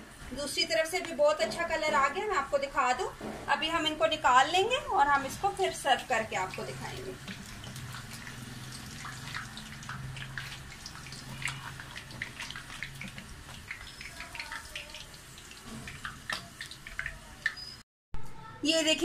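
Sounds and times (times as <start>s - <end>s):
hot oil sizzling: 0.0s - 17.8s.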